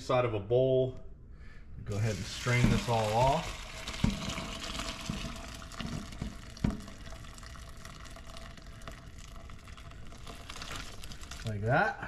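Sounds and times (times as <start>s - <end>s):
stock pouring through a colander: 1.9s - 11.8s.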